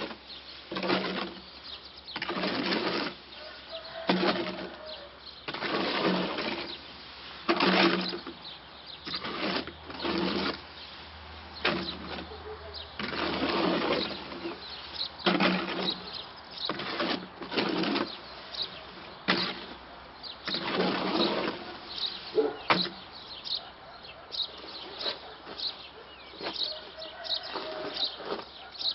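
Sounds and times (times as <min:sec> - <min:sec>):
shovel scraping concrete mix: 0:00.0 - 0:28.9.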